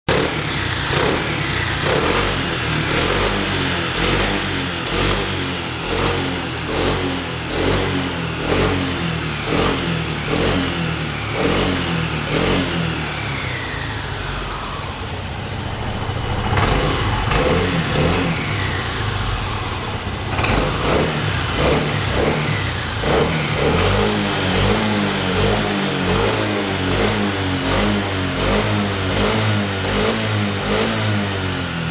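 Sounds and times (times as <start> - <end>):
scooter engine revving: 0.1 - 31.9.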